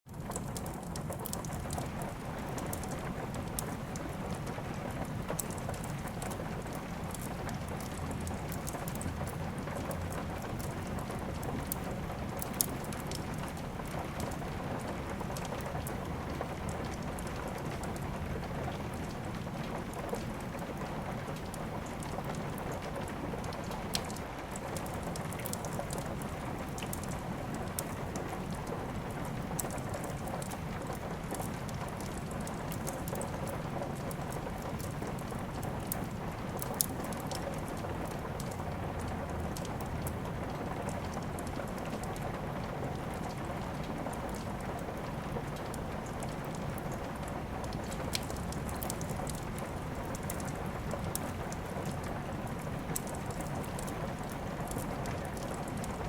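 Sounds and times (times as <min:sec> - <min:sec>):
steady rain: 0:00.1 - 0:56.0
wood fire crackling and popping: 0:00.1 - 0:56.0.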